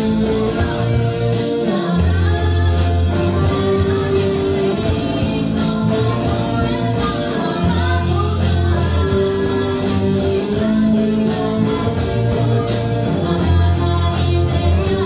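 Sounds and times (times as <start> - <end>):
bass guitar: 0.0 - 15.0
drums: 0.0 - 15.0
electric guitar: 0.0 - 15.0
person singing: 0.0 - 15.0.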